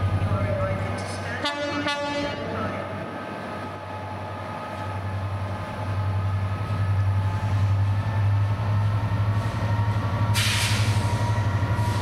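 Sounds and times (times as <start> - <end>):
train running through station: 0.0 - 12.0.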